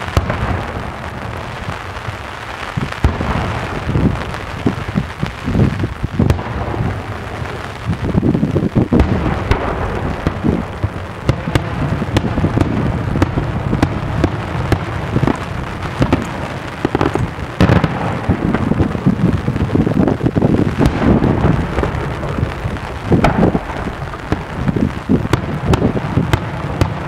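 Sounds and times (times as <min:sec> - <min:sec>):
continuous rumble: 0:00.0 - 0:27.0
fireworks bangs and cracks: 0:00.0 - 0:27.0.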